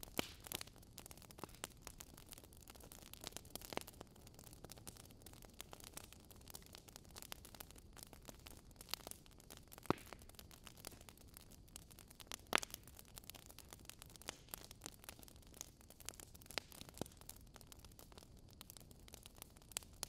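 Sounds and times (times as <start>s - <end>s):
fire pops: 0.0s - 17.3s
wood fire crackling: 0.0s - 20.0s.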